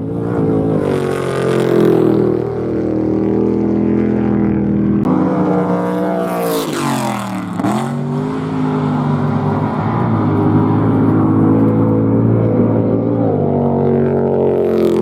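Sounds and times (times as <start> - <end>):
off-road vehicle engines racing: 0.0 - 15.0.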